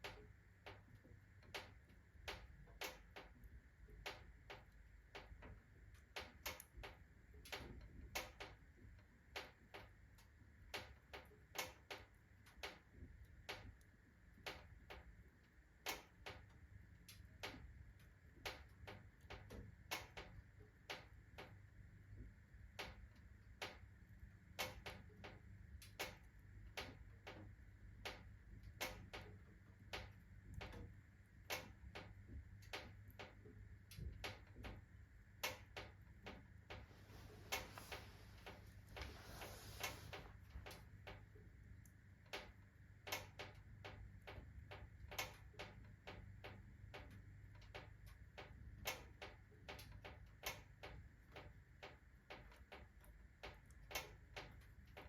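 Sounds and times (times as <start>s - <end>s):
iron stove ticking and clicking: 0.0s - 55.0s.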